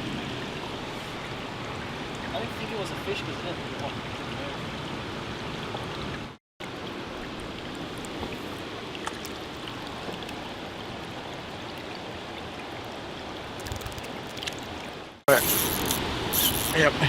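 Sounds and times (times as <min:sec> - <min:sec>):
flood water rushing: 0:00.0 - 0:17.0.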